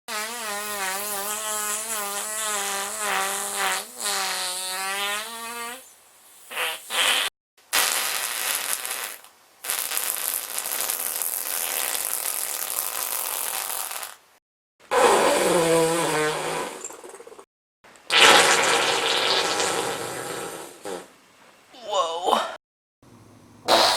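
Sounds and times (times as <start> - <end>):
farts: 0.1 - 14.2, 14.9 - 17.5, 18.1 - 21.1, 23.7 - 23.9.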